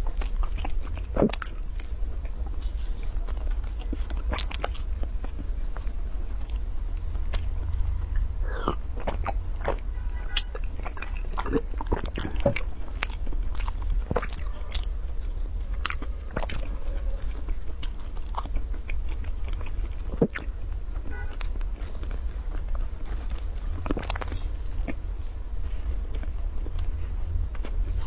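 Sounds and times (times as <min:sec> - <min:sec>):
low hum: 0:00.0 - 0:28.0
person chewing: 0:00.0 - 0:28.0.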